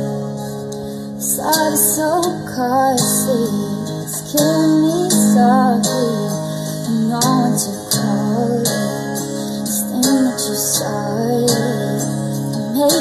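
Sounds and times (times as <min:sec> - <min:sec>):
acoustic guitar: 0:00.0 - 0:13.0
woman singing slow song: 0:00.0 - 0:13.0.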